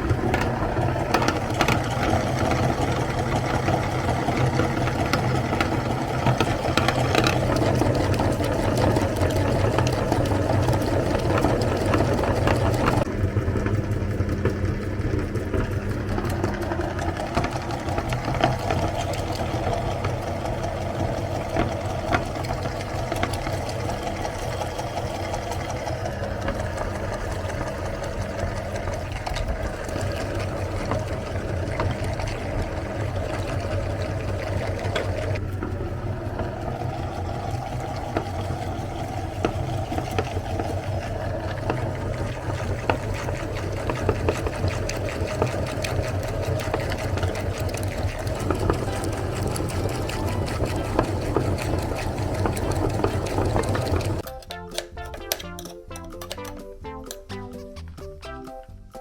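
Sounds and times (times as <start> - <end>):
electric meat grinder running: 0.0 - 54.3.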